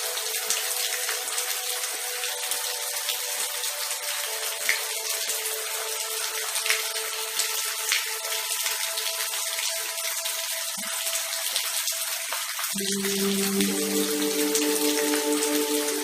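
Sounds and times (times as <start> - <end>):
raindrop splashes: 0.0 - 16.0
steady rain falling: 0.0 - 16.0.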